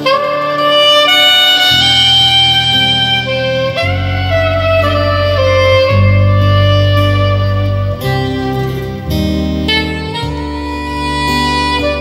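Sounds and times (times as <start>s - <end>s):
gliding melodic lead: 0.0s - 12.0s
steady bass notes: 0.0s - 12.0s.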